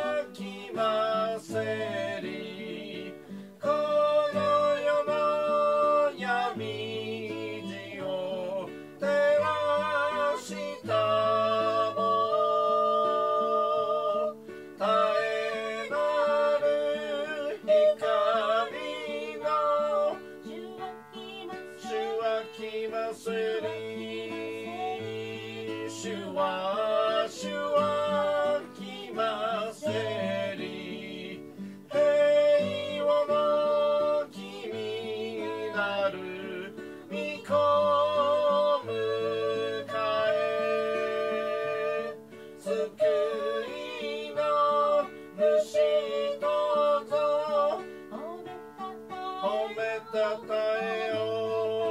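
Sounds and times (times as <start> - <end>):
acoustic guitar: 0.0 - 51.9
person singing a hymn: 0.0 - 51.9.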